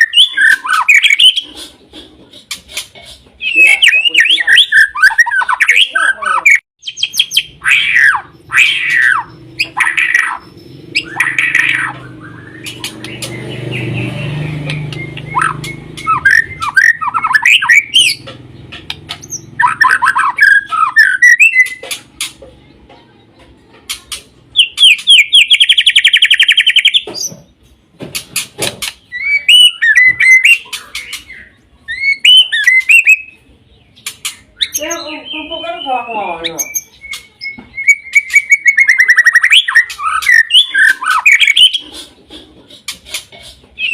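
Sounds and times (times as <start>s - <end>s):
bird singing: 0.0s - 1.6s, 2.4s - 43.9s.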